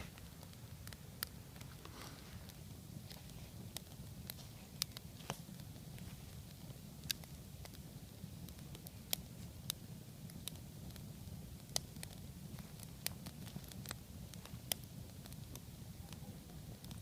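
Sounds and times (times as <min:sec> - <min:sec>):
campfire crackling and popping: 0:00.0 - 0:17.0
low fire rumble: 0:00.0 - 0:17.0.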